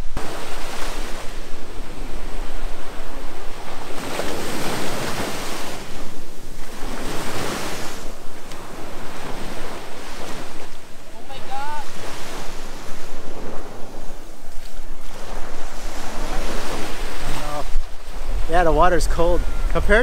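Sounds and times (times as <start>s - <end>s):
surf breaking on shore: 0.0s - 20.0s
wind noise on microphone: 0.0s - 20.0s.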